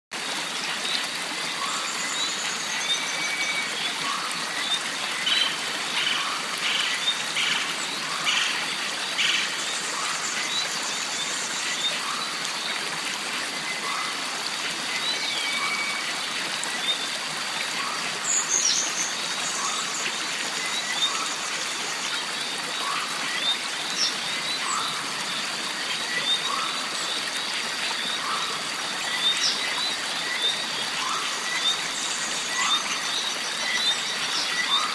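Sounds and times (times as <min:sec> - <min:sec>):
stream running: 0:00.1 - 0:34.9.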